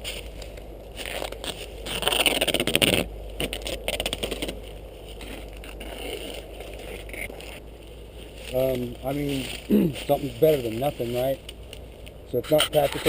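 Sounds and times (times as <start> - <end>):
leafy brush rustling: 0.0 - 13.0.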